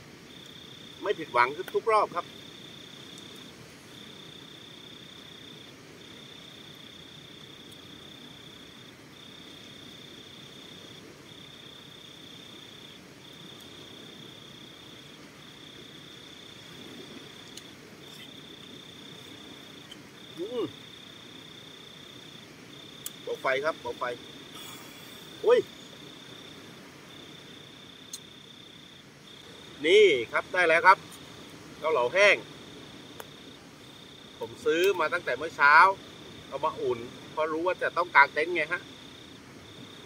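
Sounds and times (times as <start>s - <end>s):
low background noise: 0.0s - 40.0s
insect trilling: 0.3s - 40.0s.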